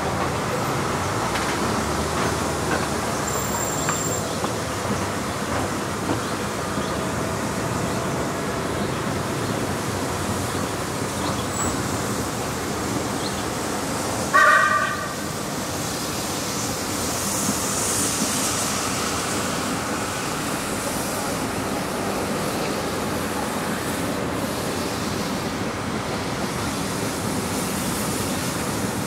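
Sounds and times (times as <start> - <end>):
train running noise: 0.0 - 29.0.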